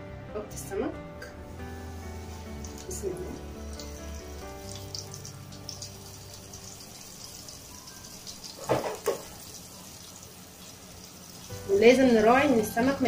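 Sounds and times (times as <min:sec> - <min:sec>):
background music: 0:00.0 - 0:13.0
fish frying in oil: 0:02.1 - 0:13.0.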